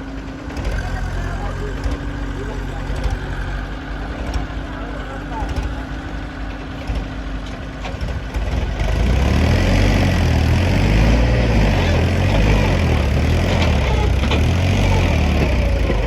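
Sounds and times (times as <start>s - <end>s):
heavy diesel engine working: 0.0s - 16.0s.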